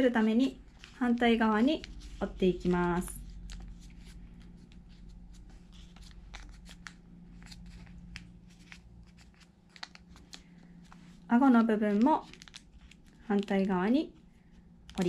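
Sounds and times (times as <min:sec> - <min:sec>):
paper rustling and crinkling: 0:00.2 - 0:15.0.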